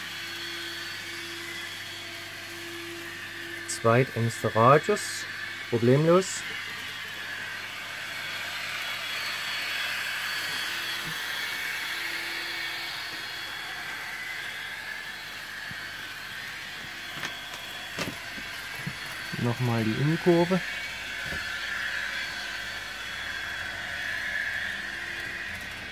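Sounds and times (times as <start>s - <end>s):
model train motor whir: 0.0s - 25.9s.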